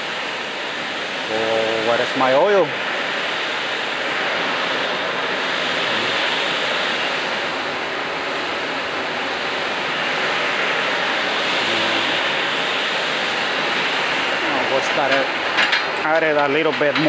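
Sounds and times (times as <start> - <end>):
kitchen exhaust hood rushing air: 0.0 - 17.0.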